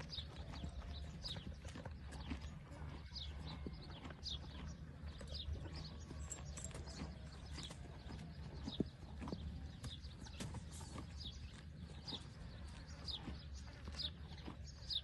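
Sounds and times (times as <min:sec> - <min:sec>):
faint hoof steps: 0:00.0 - 0:15.0.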